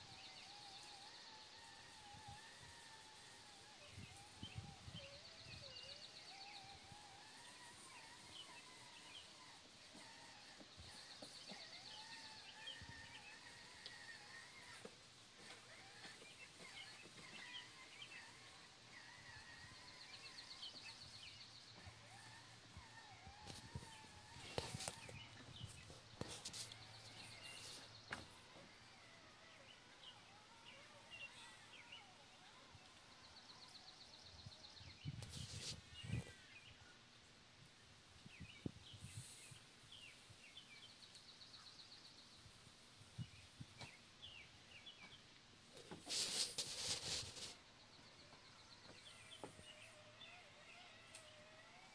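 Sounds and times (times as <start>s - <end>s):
birds chirping and whistling: 0.0s - 36.8s, 45.8s - 51.9s.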